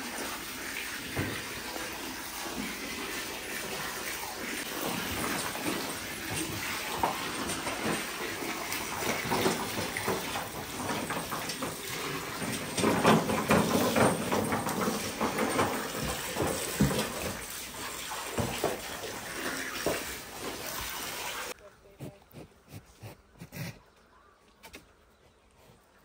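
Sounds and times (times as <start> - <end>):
hose water splashing on concrete: 0.0 - 21.6.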